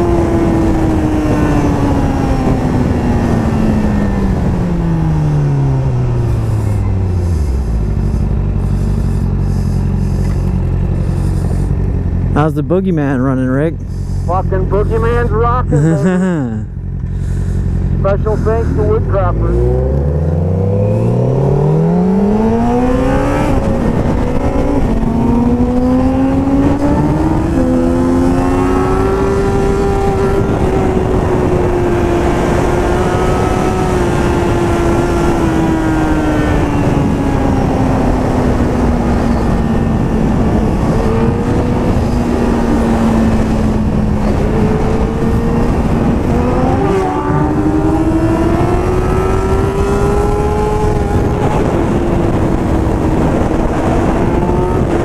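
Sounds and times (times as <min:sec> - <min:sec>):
wind rush on microphone: 0:00.0 - 0:12.3, 0:17.1 - 0:55.0
motorcycle engine revving: 0:00.0 - 0:55.0.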